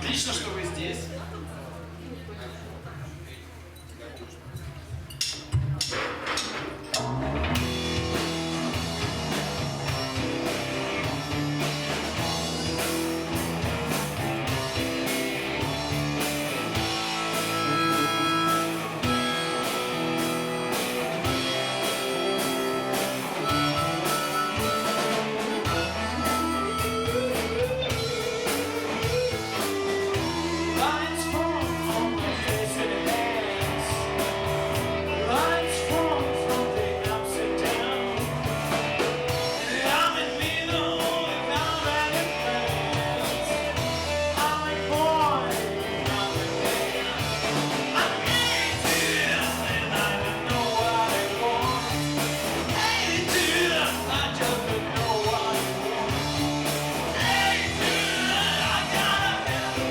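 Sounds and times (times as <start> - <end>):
blues-rock song with singer: 6.3 - 59.9.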